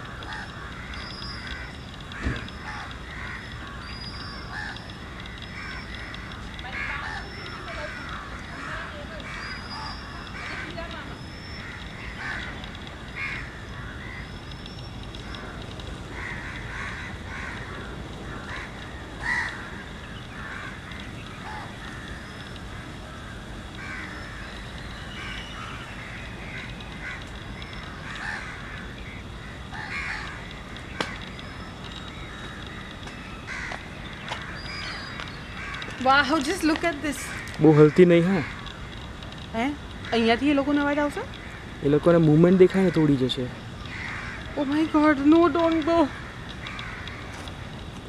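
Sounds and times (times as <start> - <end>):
flamingos calling: 0.0 - 48.0.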